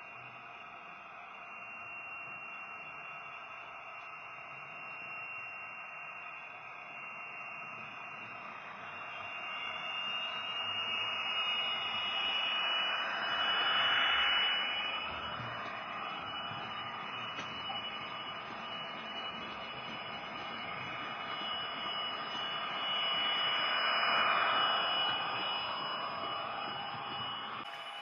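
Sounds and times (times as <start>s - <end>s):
high motor whine: 0.0s - 28.0s.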